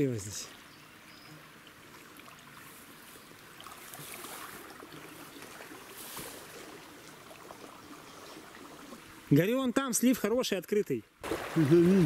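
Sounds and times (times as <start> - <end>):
shallow river flowing: 0.0 - 10.0, 11.1 - 12.0.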